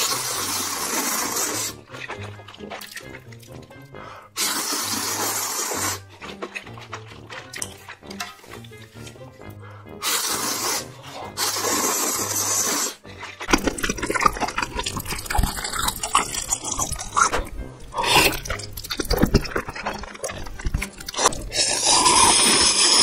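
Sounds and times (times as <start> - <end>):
noodles being slurped: 0.0 - 23.0
wet chewing: 0.0 - 23.0.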